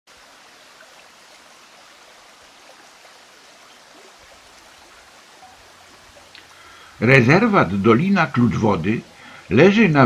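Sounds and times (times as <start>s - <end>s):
small stream rushing: 0.1s - 10.0s.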